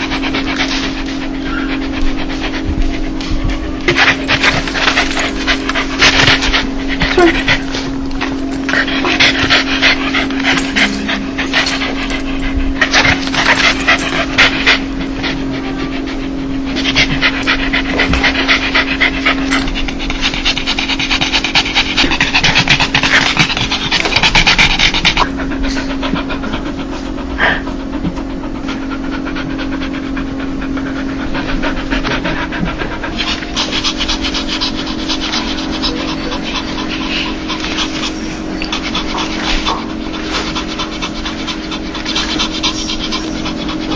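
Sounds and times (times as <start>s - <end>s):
dog panting: 0.0s - 43.9s.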